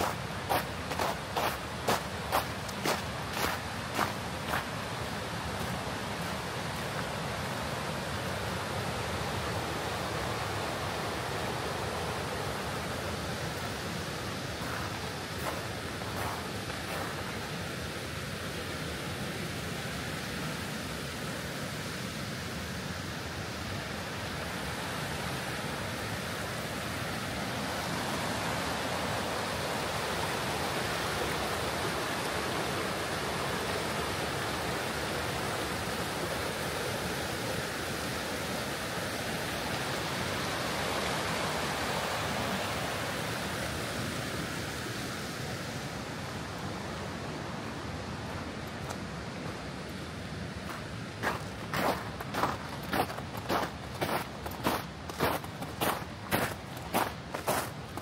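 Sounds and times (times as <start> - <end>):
creek water rushing over boulders: 0.0 - 58.0.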